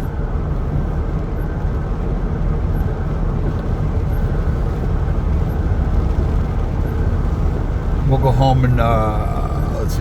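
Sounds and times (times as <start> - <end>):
car cabin engine and tyre noise: 0.0 - 10.0.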